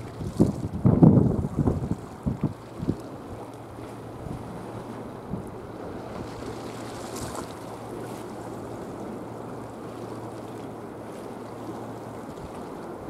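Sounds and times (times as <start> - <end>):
choppy sea water: 0.0 - 13.0.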